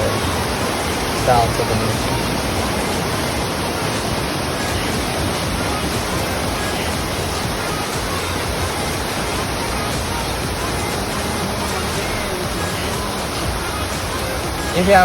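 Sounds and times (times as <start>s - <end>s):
waterfall pouring: 0.0s - 15.0s.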